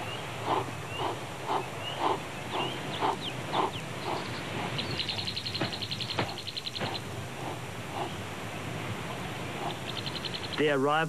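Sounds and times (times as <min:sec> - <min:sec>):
cheetah panting: 0:00.0 - 0:10.6
birds chirping: 0:00.0 - 0:11.0.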